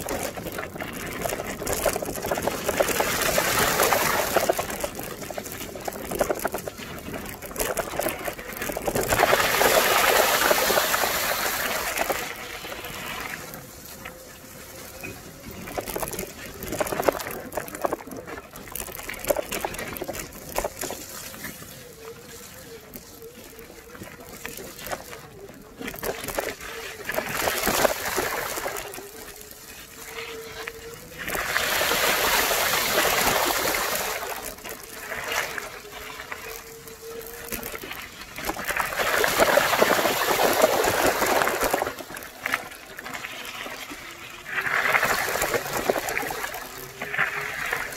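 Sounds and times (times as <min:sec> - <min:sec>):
bicycle tyres rolling on mud: 0:00.0 - 0:47.9
bike rattling over bumps: 0:00.0 - 0:47.9
water splashing: 0:00.0 - 0:47.9.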